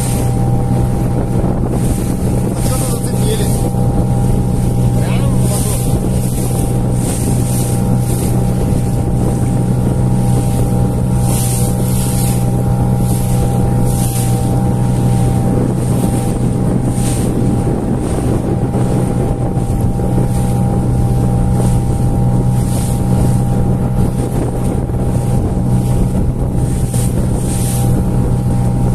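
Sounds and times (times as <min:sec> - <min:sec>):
outboard motor running: 0:00.0 - 0:28.9
water rushing over bow: 0:00.0 - 0:28.9
wind buffeting microphone: 0:00.0 - 0:28.9.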